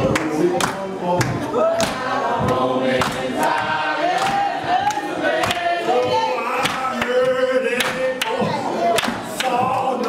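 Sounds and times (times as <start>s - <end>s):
congregation singing: 0.0s - 10.0s
sharp beats keeping time: 0.0s - 10.0s.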